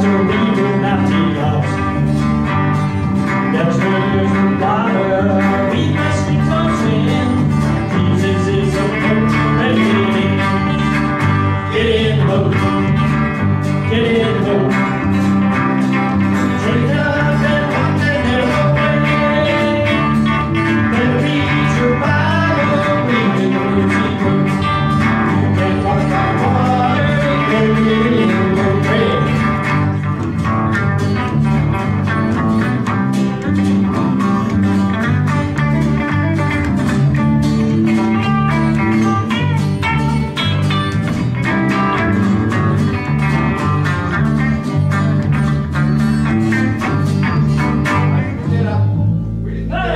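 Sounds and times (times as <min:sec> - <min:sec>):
strummed acoustic guitar: 0:00.0 - 0:49.4
electric bass: 0:00.0 - 0:49.9
electric guitar lead with bends: 0:00.0 - 0:49.9.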